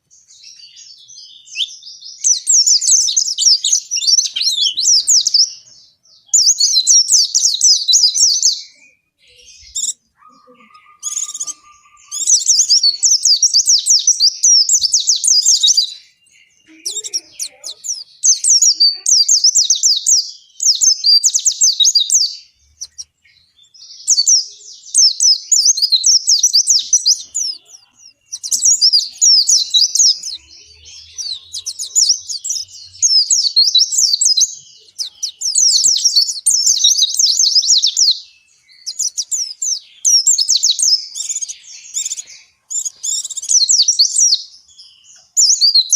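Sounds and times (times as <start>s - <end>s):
bird twittering: 0.0s - 45.9s.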